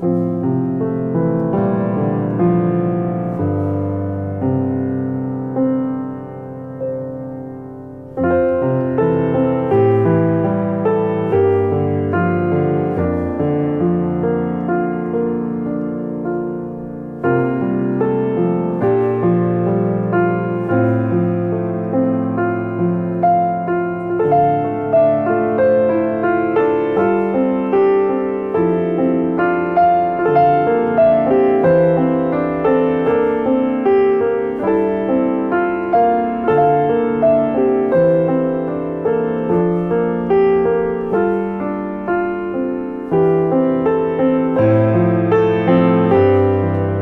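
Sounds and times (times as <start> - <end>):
gentle piano melody: 0.0 - 47.0.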